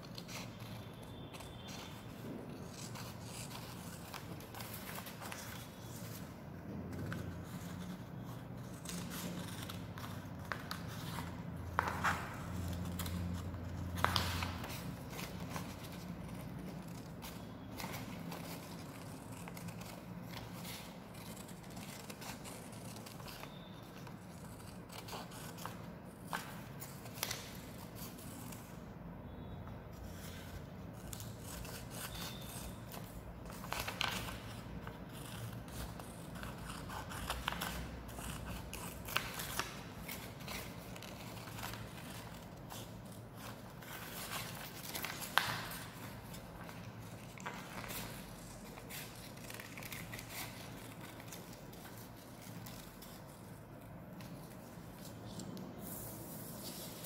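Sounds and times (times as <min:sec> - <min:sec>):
scissors snipping paper: 0:00.0 - 0:06.3, 0:06.9 - 0:28.8, 0:30.1 - 0:56.0.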